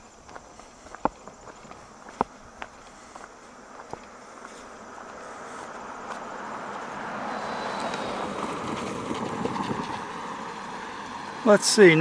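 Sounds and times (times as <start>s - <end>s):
road vehicle passing: 0.5s - 12.0s.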